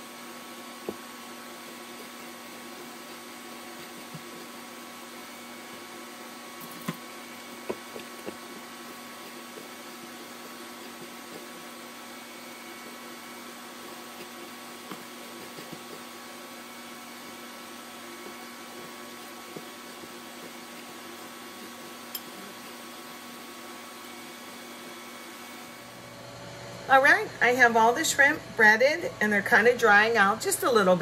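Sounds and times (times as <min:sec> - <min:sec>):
air fryer fan whirring: 0:00.0 - 0:31.0.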